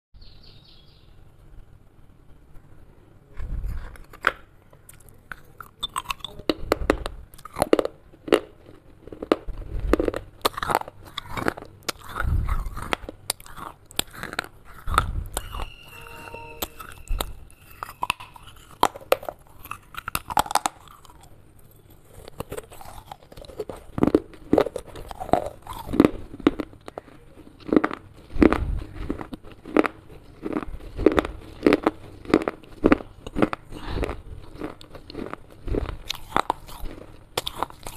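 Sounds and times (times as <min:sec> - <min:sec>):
teeth crunching baked clay: 0:03.3 - 0:16.0, 0:16.6 - 0:37.9.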